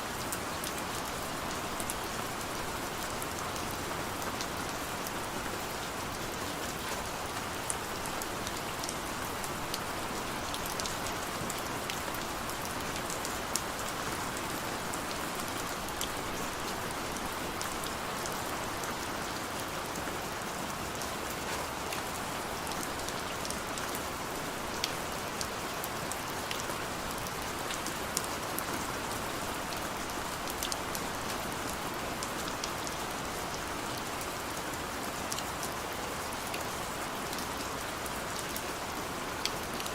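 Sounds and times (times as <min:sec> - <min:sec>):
heavy rain falling: 0:00.0 - 0:39.9
raindrops pattering on a surface: 0:00.1 - 0:39.9.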